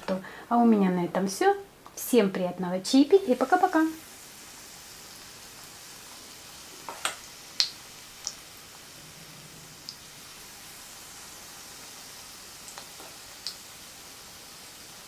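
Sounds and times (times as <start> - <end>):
batter sizzling in oil: 2.8 - 15.0.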